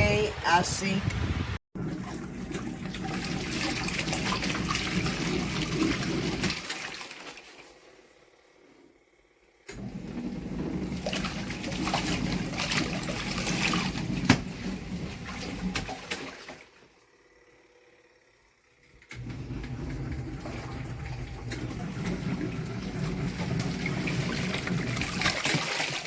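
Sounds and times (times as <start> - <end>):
washing machine motor hum: 1.8 - 26.0
water swishing in washing machine: 1.8 - 26.0.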